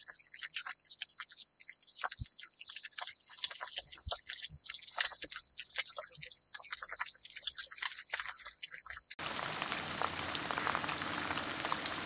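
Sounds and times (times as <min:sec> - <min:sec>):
eggs sizzling with pops: 0:00.0 - 0:12.0.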